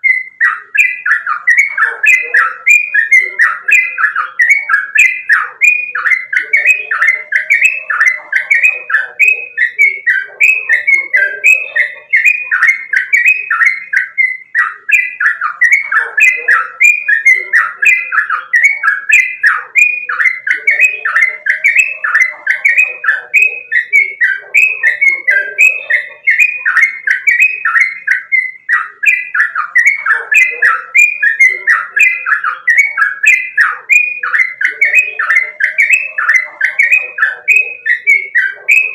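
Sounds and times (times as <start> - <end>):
bird singing rapid notes: 0.0 - 38.9.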